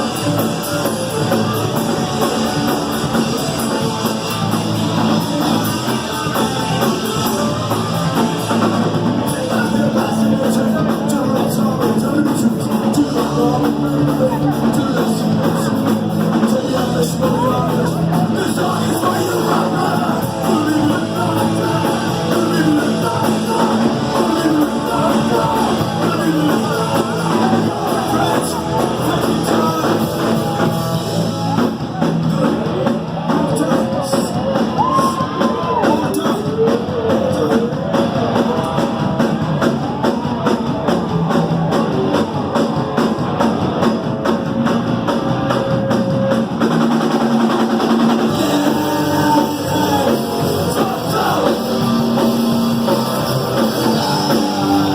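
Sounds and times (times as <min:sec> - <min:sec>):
drum kit: 0:00.0 - 0:54.9
electric guitar: 0:00.0 - 0:54.9
person singing: 0:00.0 - 0:54.9.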